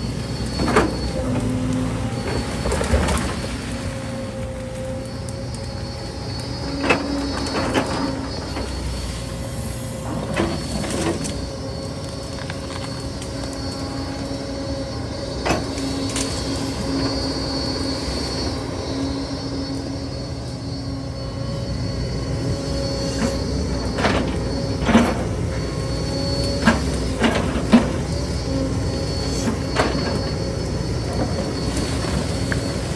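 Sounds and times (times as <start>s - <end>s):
excavator engine whining hum: 0.0s - 32.9s.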